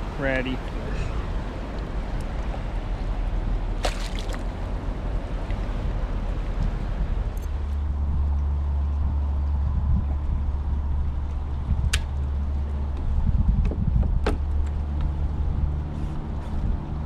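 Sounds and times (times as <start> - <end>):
water around a kayak: 0.0 - 16.8
wind rumble: 0.0 - 17.0.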